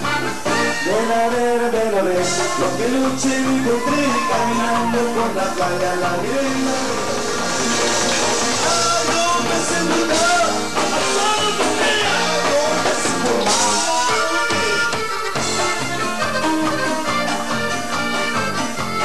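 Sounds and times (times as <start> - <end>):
button accordion melody: 0.0 - 3.6, 5.2 - 19.0
live band music: 0.0 - 19.0.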